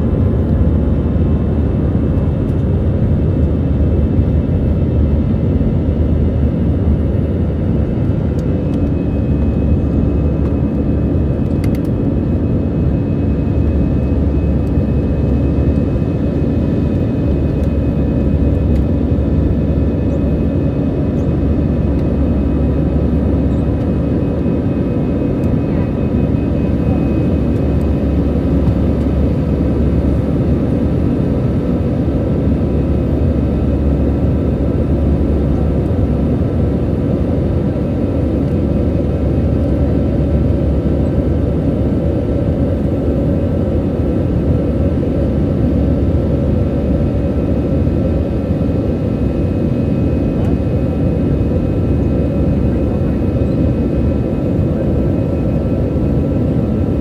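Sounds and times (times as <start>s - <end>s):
constant engine whine: 0.0s - 57.0s
jet engine rumble in cabin: 0.0s - 57.0s.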